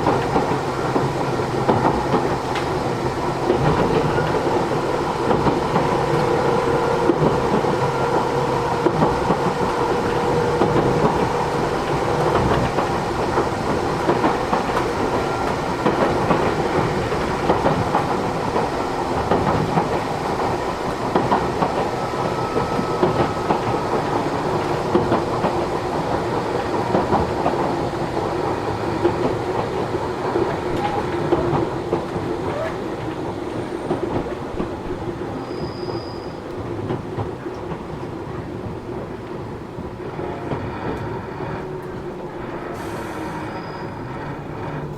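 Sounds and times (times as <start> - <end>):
train rolling noise: 0.0 - 44.9.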